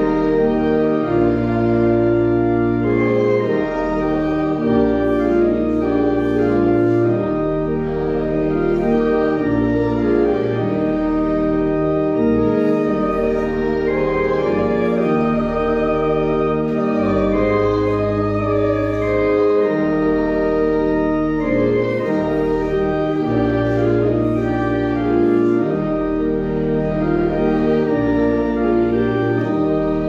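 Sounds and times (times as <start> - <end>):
pipe organ playing a hymn: 0.0 - 30.0.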